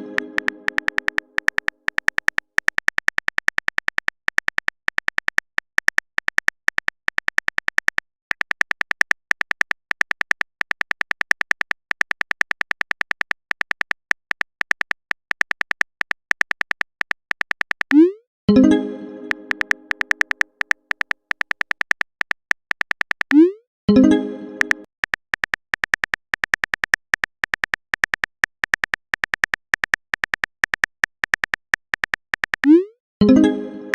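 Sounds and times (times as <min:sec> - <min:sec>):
keyboard typing clicks: 0:00.0 - 0:33.5.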